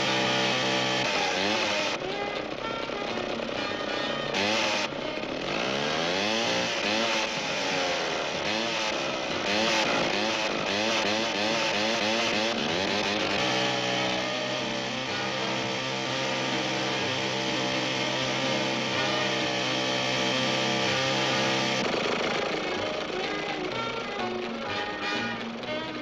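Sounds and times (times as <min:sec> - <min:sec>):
cartoon buzzing motor: 0:00.0 - 0:26.0
steady musical tone: 0:00.0 - 0:26.0.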